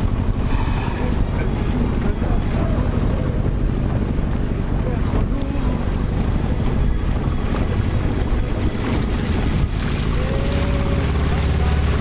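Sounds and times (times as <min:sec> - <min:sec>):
motorboat engine running: 0:00.0 - 0:12.0
rush of wind and water: 0:00.0 - 0:12.0.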